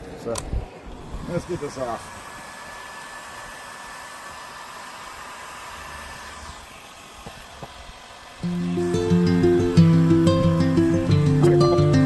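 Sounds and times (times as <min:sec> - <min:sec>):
heat gun blowing: 0:00.4 - 0:12.0.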